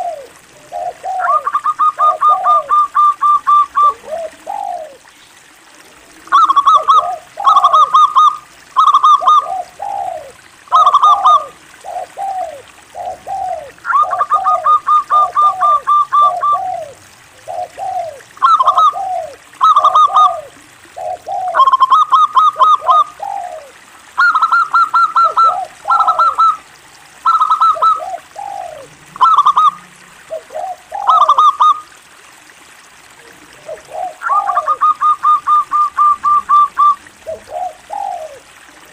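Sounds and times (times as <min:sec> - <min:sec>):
dove cooing: 0:00.0 - 0:05.1, 0:05.8 - 0:32.0, 0:33.1 - 0:38.9.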